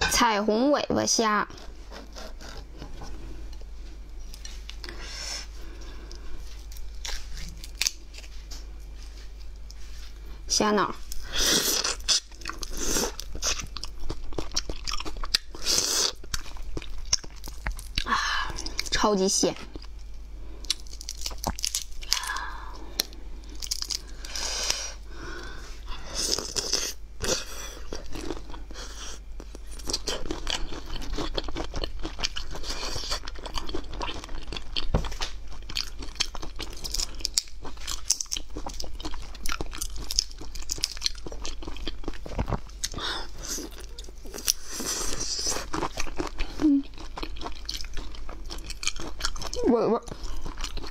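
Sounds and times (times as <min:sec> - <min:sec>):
close-up chewing: 0:01.5 - 0:10.3, 0:11.1 - 0:19.0, 0:25.8 - 0:50.9.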